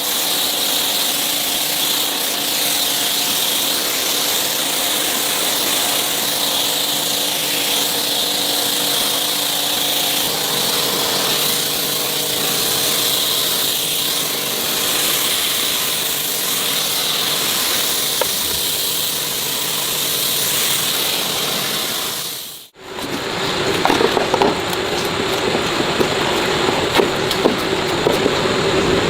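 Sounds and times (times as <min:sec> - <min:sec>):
hissing power tool: 0:00.0 - 0:29.0.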